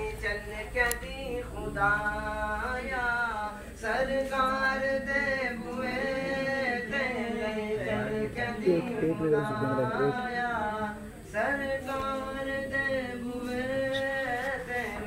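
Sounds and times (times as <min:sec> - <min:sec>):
boy singing devotional song: 0:00.0 - 0:15.0.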